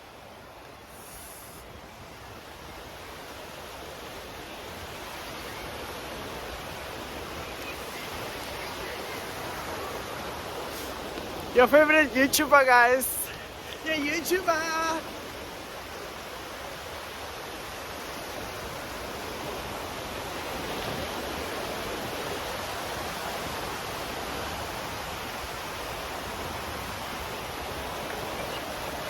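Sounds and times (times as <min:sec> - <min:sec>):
sea surf washing on beach: 0:00.0 - 0:29.0.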